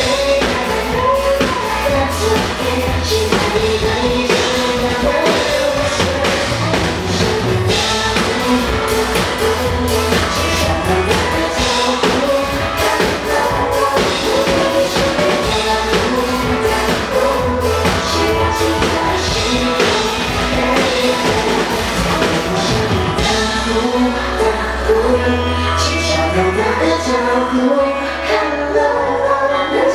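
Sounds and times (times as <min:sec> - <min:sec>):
drum kit playing: 0:00.0 - 0:24.4
pop-rock song with singing: 0:00.0 - 0:29.9.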